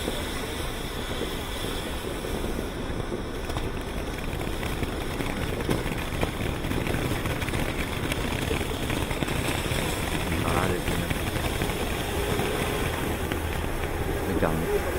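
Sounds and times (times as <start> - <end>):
firework fountain hissing: 0.0 - 14.9
sharp crackles: 0.0 - 14.9.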